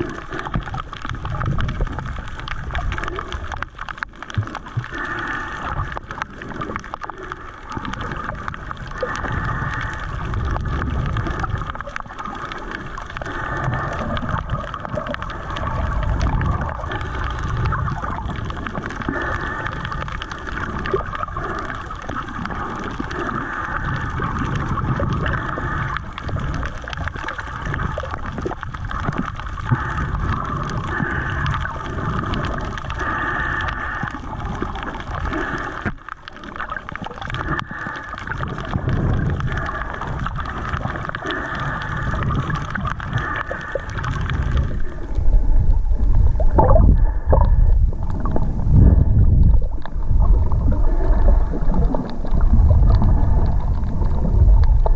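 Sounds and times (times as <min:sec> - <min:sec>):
water gurgling underwater: 0:00.0 - 0:54.9.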